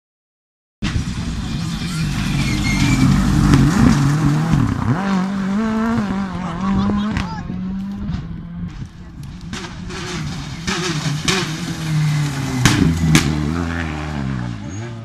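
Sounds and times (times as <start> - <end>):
rally car engine passing: 0.8 - 15.0.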